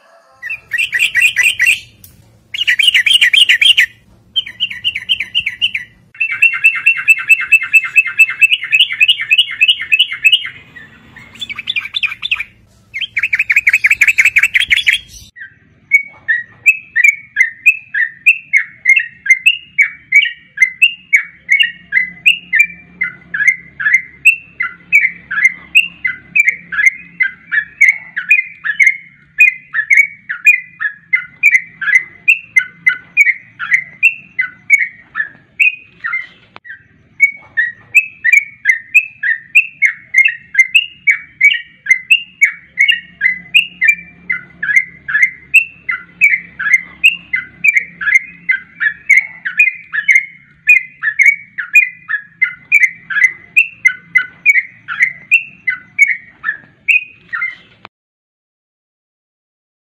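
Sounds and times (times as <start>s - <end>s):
bulbul chattering trills: 0.0s - 57.8s.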